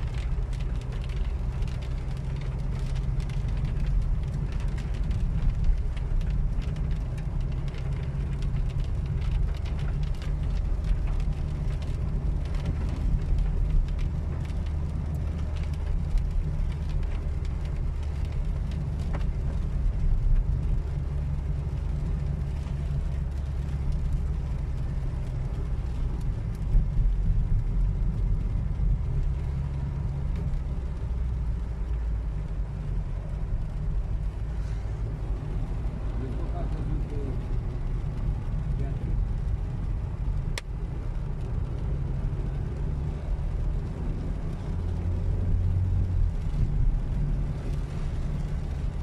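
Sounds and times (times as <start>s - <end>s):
engine and tyre rumble: 0.0s - 49.0s.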